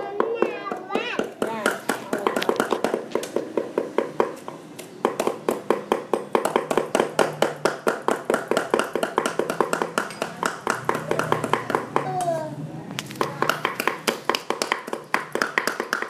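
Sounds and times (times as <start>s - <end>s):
knives chopping on wooden boards: 0.1s - 12.3s, 13.1s - 16.0s.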